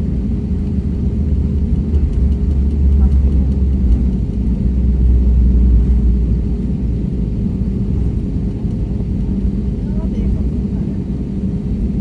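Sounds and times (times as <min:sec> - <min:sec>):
airliner low rumble: 0:00.0 - 0:12.0
constant hum: 0:00.0 - 0:12.0.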